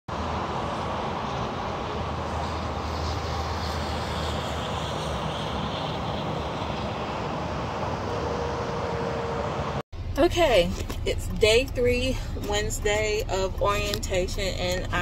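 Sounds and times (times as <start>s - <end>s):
truck driving by: 0.1s - 15.0s.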